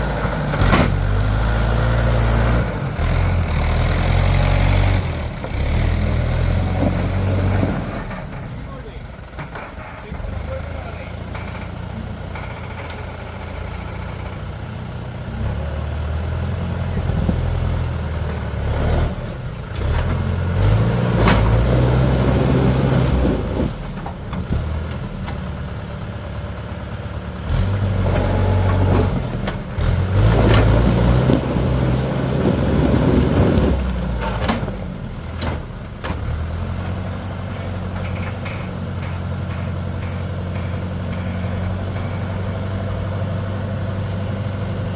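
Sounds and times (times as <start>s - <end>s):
tractor diesel engine revving: 0.0s - 44.9s.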